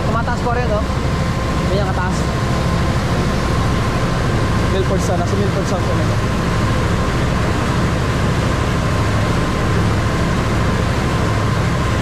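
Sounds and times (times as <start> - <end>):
ferry engine drone: 0.0 - 12.0.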